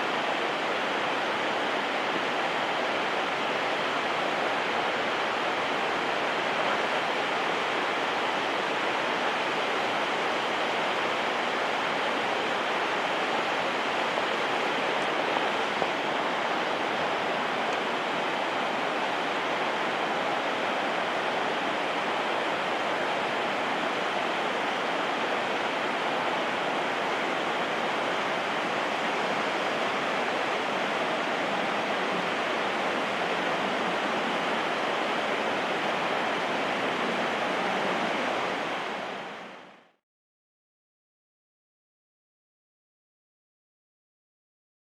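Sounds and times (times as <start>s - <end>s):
waterfall rushing: 0.0s - 39.8s.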